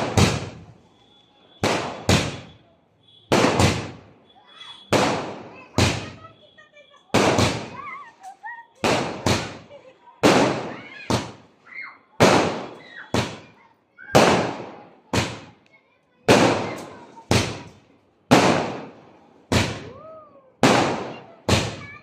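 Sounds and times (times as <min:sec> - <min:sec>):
firecrackers banging with echo: 0:00.0 - 0:06.5, 0:07.1 - 0:11.6, 0:12.2 - 0:15.6, 0:16.2 - 0:22.0.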